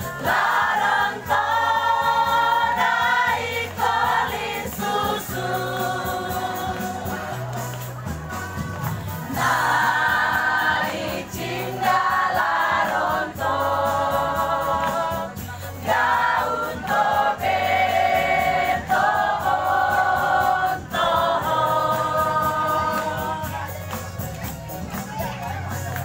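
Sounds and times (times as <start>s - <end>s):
choir singing: 0.0s - 7.4s, 9.3s - 23.7s.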